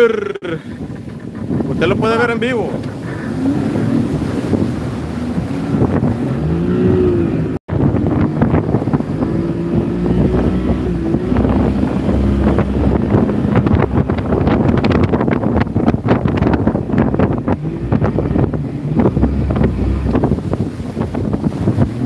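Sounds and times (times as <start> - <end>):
outboard motor running: 0.0 - 22.0
water noise: 0.0 - 22.0
wind on microphone: 0.0 - 22.0.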